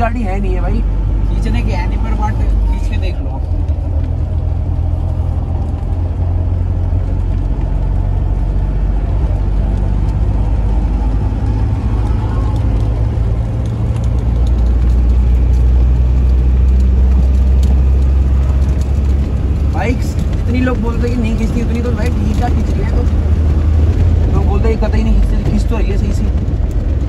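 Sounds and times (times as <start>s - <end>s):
diesel engine accelerating: 0.0s - 27.0s.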